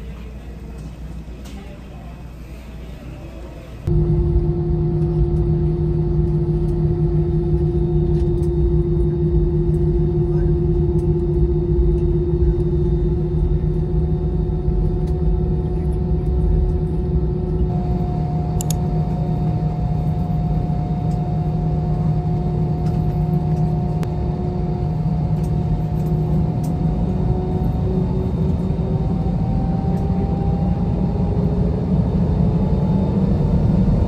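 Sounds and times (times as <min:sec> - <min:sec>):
faint high hums: 0:00.0 - 0:31.1
steady low hum: 0:00.0 - 0:34.0
jet engines rumbling: 0:03.7 - 0:34.0.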